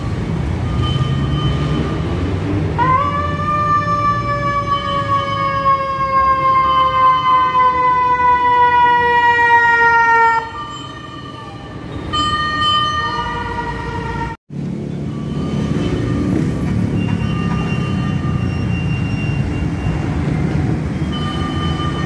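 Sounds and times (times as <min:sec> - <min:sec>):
fire truck siren: 0:00.0 - 0:20.3
traffic engine rumble: 0:00.0 - 0:22.0.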